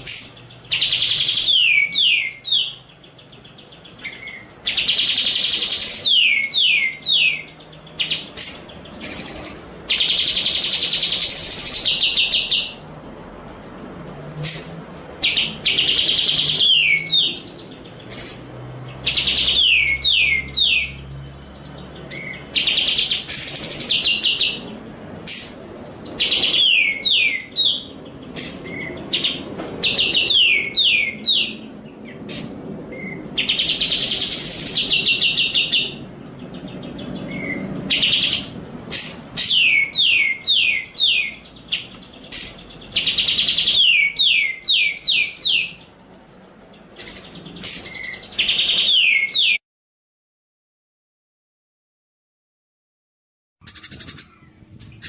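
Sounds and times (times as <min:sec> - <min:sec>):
songbird singing: 0:00.0 - 0:49.6, 0:53.6 - 0:55.0.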